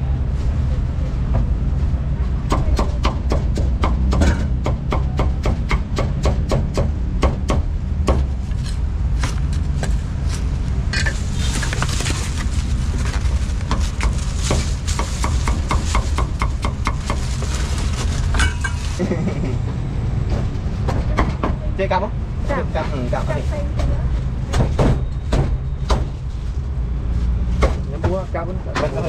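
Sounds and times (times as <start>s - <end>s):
low rumble of traffic: 0.0s - 29.0s.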